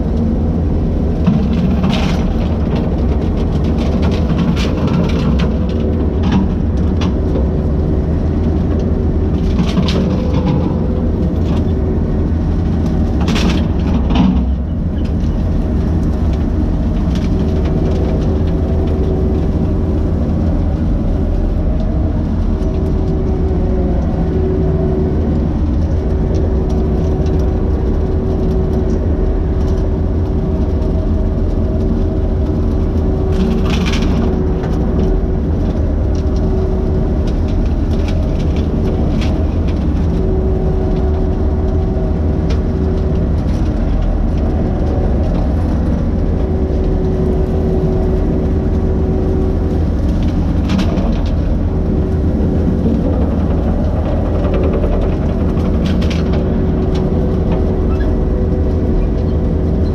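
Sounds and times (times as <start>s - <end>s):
skid steer engine running: 0.0s - 59.9s.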